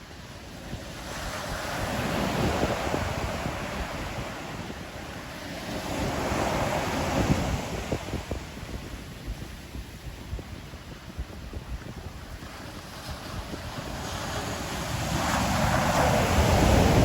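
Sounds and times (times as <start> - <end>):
sea waves washing ashore: 0.0 - 17.0
wind on microphone: 0.0 - 17.0.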